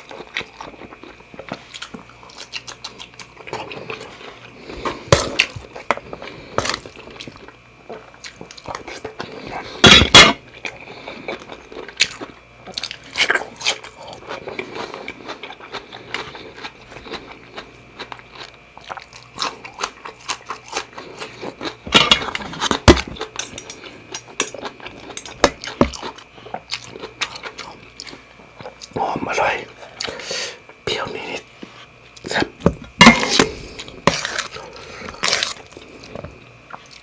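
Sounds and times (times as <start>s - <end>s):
chewing and crunching food: 0.0s - 37.0s.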